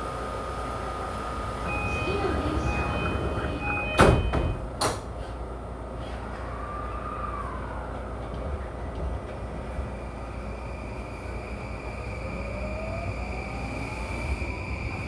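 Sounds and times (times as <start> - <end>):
train wheels rumbling on rails: 1.5 - 6.5, 7.8 - 15.0.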